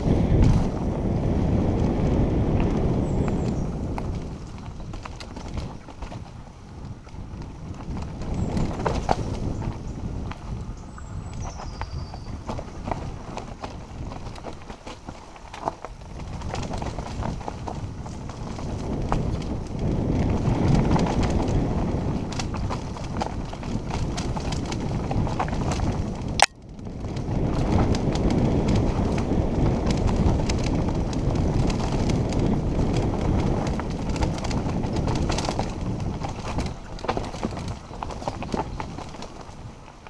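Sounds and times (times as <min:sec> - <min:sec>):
bike rattling: 0:00.0 - 0:40.0
bike tyre rumble: 0:00.0 - 0:40.0
wind buffeting: 0:00.0 - 0:40.0.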